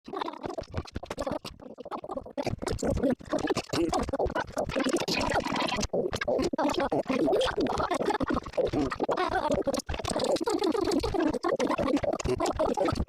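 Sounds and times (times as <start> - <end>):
stomach growling and gurgling: 0.0 - 13.0.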